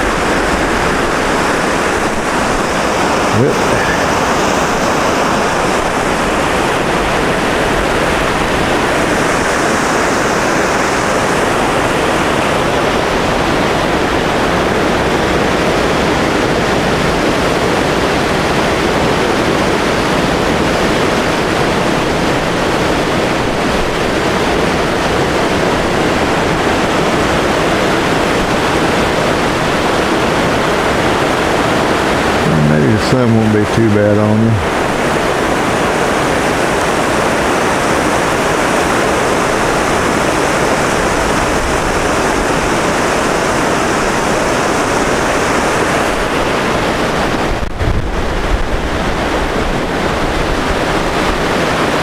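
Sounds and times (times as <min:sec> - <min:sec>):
whitewater rushing over rocks: 0:00.0 - 0:52.0.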